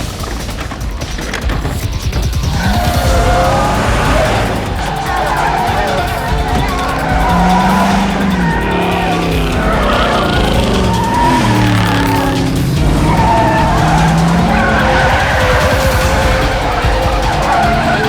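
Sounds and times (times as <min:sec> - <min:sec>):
tyres squealing: 0:00.0 - 0:18.0
car engines revving hard: 0:02.3 - 0:18.0.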